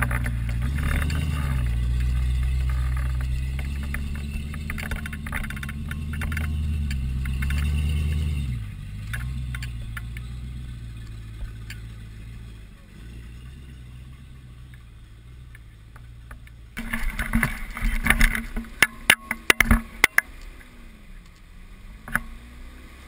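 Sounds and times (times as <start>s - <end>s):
rock scraping under tyres: 0.0s - 14.2s, 16.8s - 21.2s
engine running at low revs: 0.0s - 23.0s.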